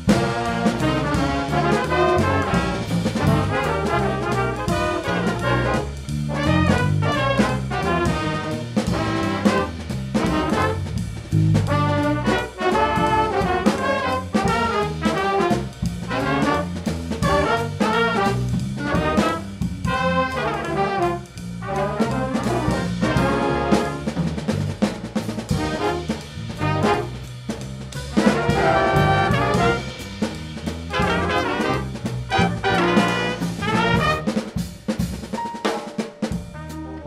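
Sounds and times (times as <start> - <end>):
trumpets and trombones: 0.0 - 34.7, 36.3 - 37.0
bass line: 0.0 - 35.3, 36.4 - 37.0
drum kit: 0.0 - 37.0.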